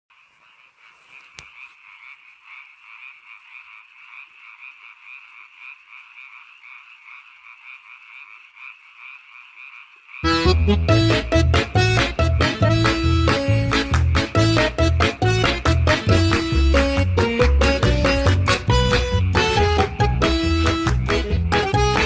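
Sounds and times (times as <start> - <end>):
tree frogs croaking: 0.1 - 22.0.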